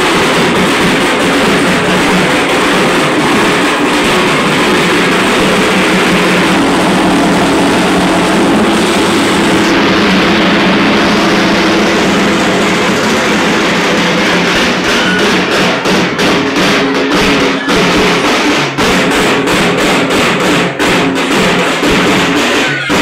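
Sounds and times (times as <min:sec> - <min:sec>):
drums beaten fast: 0:00.0 - 0:23.0.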